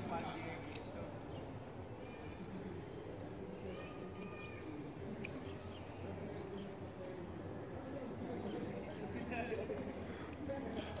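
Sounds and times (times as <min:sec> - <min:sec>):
faint distant voices: 0:00.0 - 0:11.0
low background noise: 0:00.0 - 0:11.0
small birds chirping: 0:00.2 - 0:11.0.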